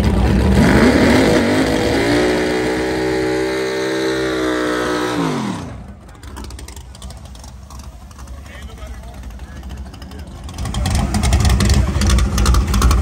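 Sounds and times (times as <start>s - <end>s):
drag car engine accelerating: 0.0s - 13.0s.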